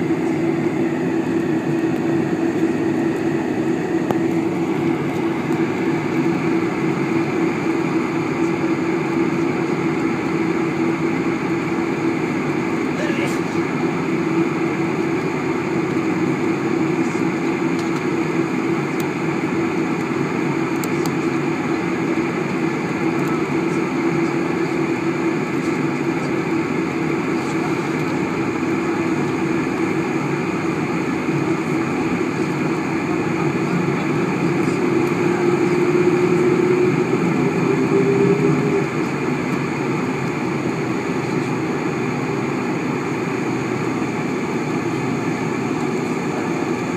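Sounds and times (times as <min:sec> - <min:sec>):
jet engines humming: 0:00.0 - 0:46.9
steady whine: 0:00.0 - 0:46.9.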